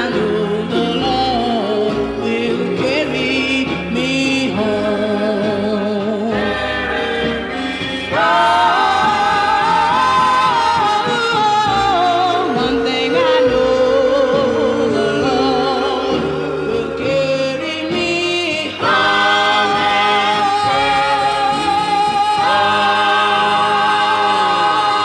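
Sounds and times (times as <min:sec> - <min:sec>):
gospel vocal group singing: 0:00.0 - 0:25.0.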